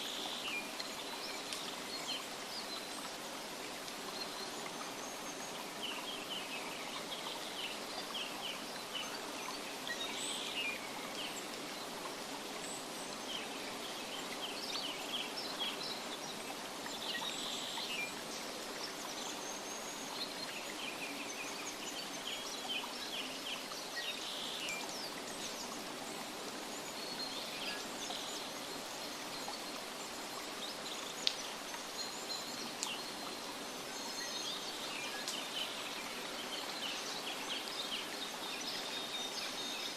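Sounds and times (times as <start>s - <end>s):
rushing stream: 0.0s - 39.9s.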